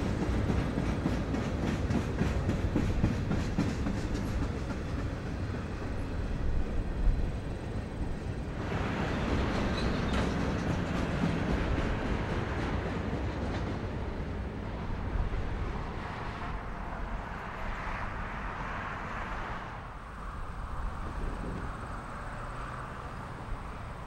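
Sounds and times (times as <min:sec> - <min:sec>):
freight train wheels rumbling and clicking: 0:00.0 - 0:24.0.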